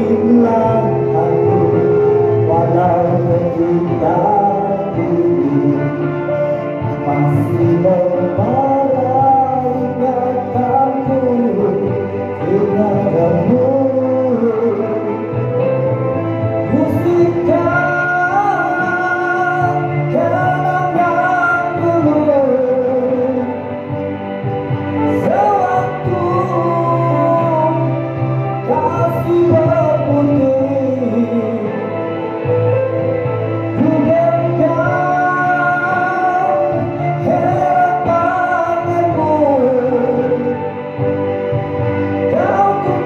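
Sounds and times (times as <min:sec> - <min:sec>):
backing music: 0:00.0 - 0:43.0
man singing into a microphone: 0:00.0 - 0:43.0.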